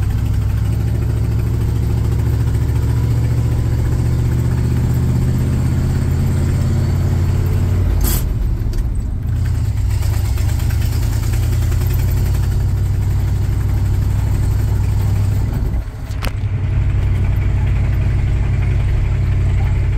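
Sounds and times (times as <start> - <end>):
truck engine running: 0.0 - 19.9.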